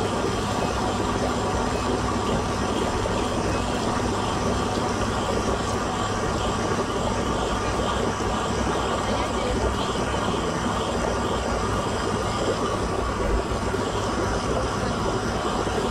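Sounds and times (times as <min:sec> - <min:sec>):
water pouring from spout: 0:00.0 - 0:15.9
whirlpool jets churning water: 0:00.0 - 0:15.9.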